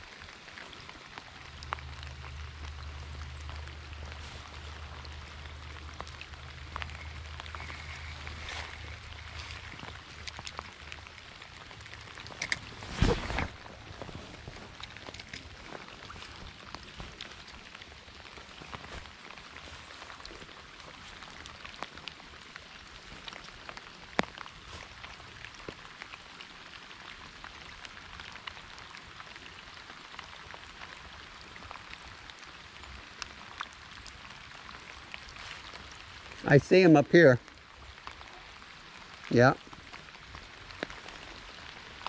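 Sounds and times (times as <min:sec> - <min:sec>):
light rain on water: 0:00.0 - 0:42.0.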